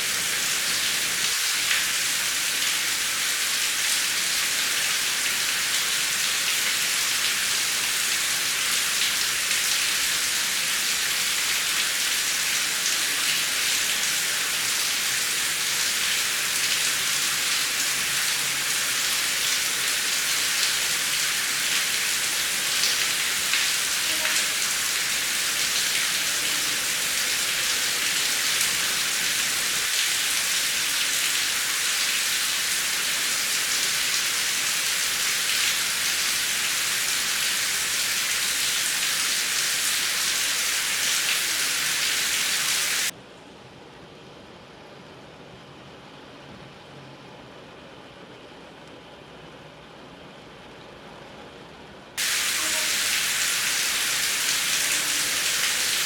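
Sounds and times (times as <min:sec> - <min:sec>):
heavy rain falling: 0:00.0 - 0:43.1, 0:52.2 - 0:56.0.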